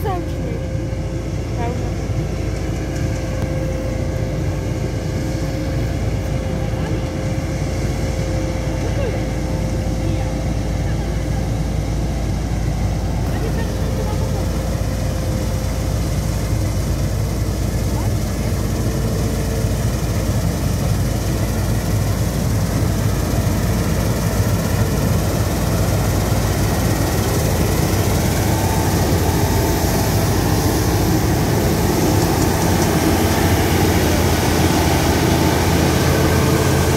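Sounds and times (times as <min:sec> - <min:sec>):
combine harvester engine drone: 0:00.0 - 0:36.9.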